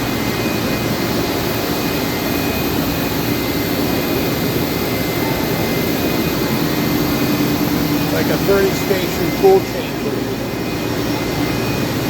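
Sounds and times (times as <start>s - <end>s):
faint high whine: 0.0s - 12.0s
machining center humming: 0.0s - 12.0s.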